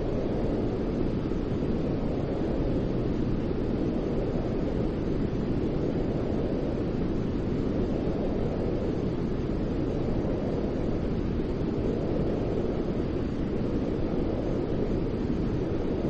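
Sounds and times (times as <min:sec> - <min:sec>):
low rushing white noise: 0:00.0 - 0:16.0.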